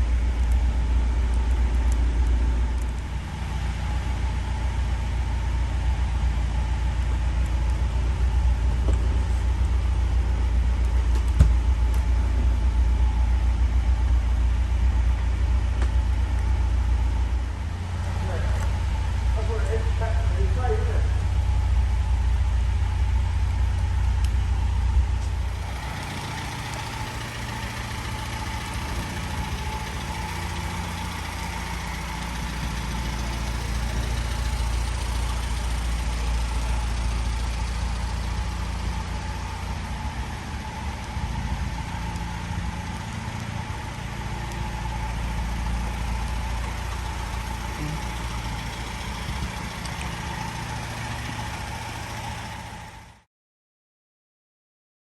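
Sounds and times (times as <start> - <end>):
camper engine idling: 0.0 - 53.3.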